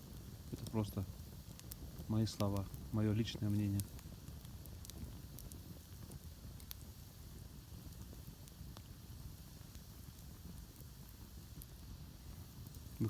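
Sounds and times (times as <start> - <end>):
campfire crackling: 0.0 - 13.0
sharp fire pops: 0.0 - 13.0.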